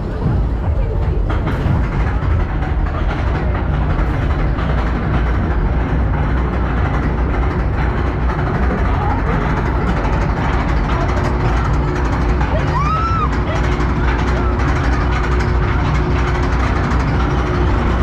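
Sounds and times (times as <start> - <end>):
roller coaster climbing lift hill: 0.0 - 18.0.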